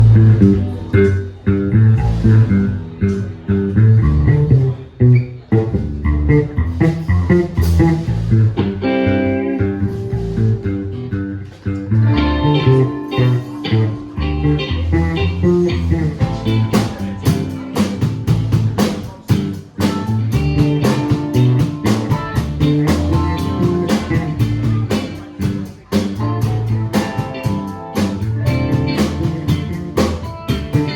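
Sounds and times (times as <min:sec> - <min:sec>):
guitar and bass guitar: 0:00.0 - 0:30.9.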